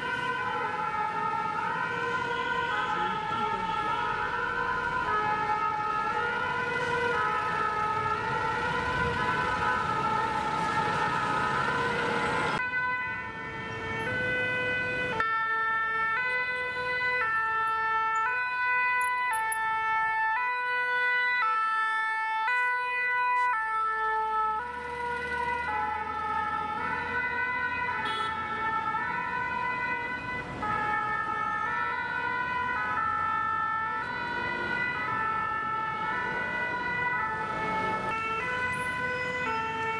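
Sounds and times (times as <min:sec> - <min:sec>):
city traffic hum: 0:00.0 - 0:39.9
two-tone fire siren: 0:00.0 - 0:39.9.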